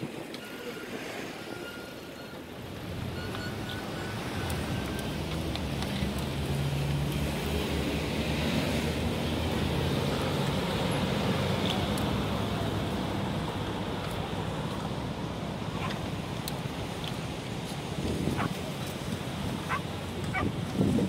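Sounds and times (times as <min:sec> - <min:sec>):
road traffic noise: 0:00.0 - 0:21.0
vehicle engine hum: 0:02.2 - 0:21.0.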